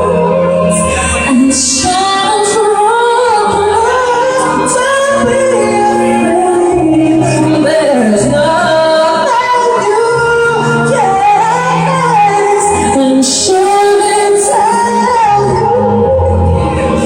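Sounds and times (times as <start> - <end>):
backing track music: 0.0 - 17.0
woman singing pop ballad: 0.0 - 17.0.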